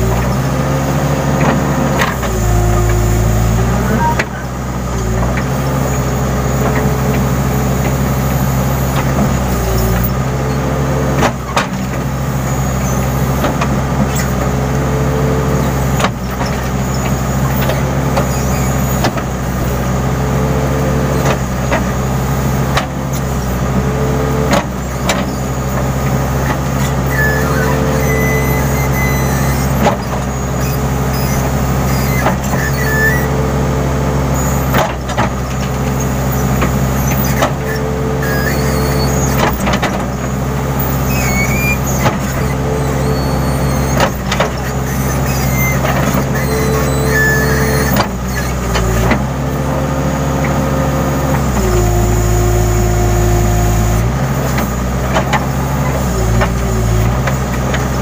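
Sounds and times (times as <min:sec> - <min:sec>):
diesel engine under load: 0:00.0 - 0:58.0
hydraulic whine: 0:00.0 - 0:58.0.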